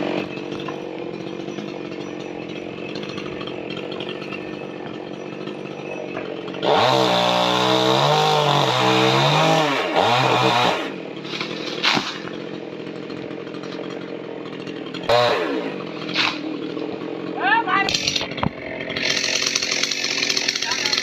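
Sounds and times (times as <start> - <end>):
chainsaw cutting into tree: 0.0 - 21.0.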